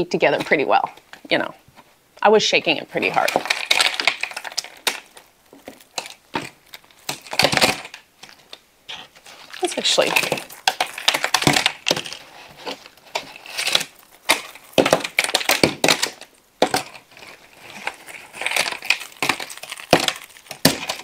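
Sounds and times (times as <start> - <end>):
puzzle pieces crackling and clattering: 2.6 - 21.0.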